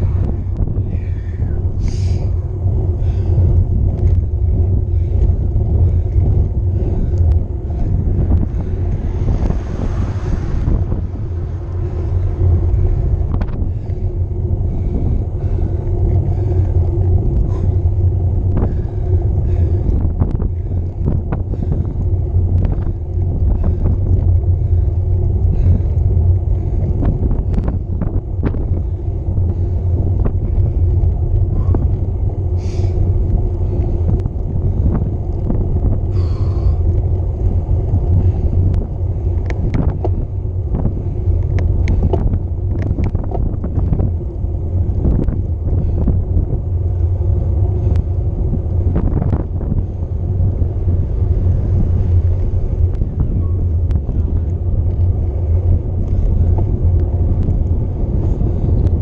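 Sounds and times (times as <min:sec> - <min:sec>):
tyres rumbling on tarmac: 0:00.0 - 0:59.0
wind buffeting microphone: 0:00.0 - 0:59.0.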